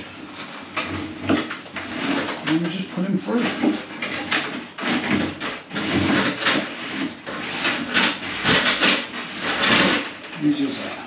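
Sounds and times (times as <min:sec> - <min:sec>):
cable scraping and rustling: 0:00.0 - 0:11.0.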